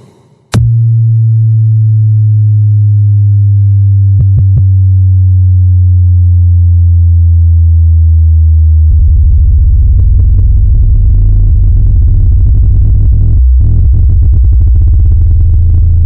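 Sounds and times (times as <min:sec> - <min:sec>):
deep sub-bass hum sliding down: 0:00.6 - 0:16.0.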